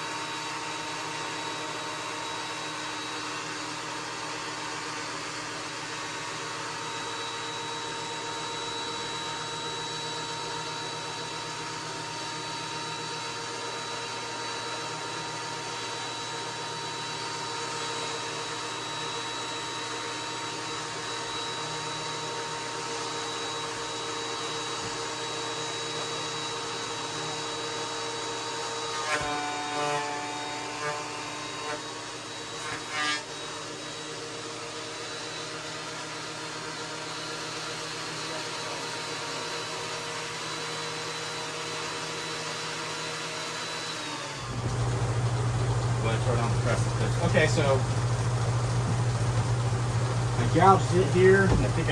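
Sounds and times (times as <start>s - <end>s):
thickness planer motor whine: 0.0s - 51.9s.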